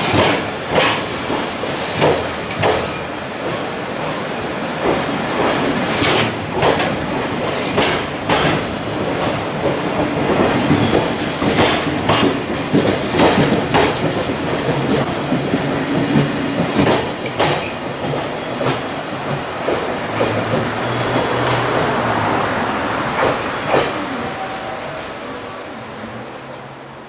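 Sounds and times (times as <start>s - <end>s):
train wheels clacking over joints: 0.0s - 24.1s
freight train rumble: 0.0s - 27.0s.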